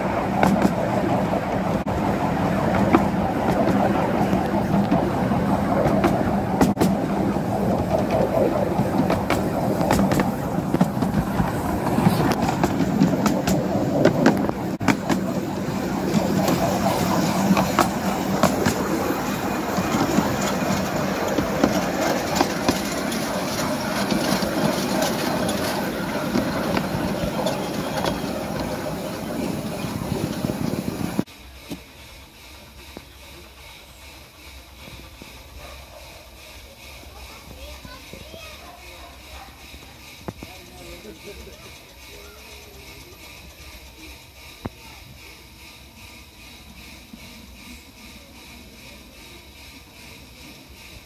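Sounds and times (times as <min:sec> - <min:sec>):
train wheels rumbling on rails: 0:00.0 - 0:51.0
wheels clacking over rail joints: 0:00.0 - 0:51.0.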